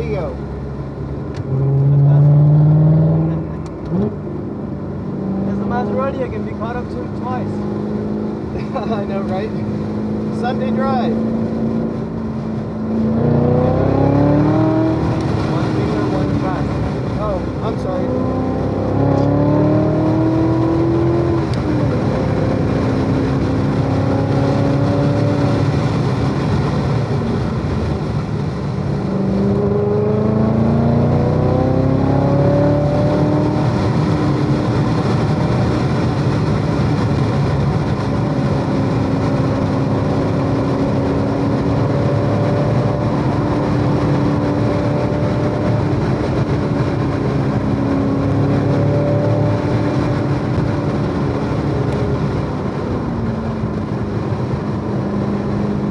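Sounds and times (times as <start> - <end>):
race car engine running hard: 0.0 - 55.9.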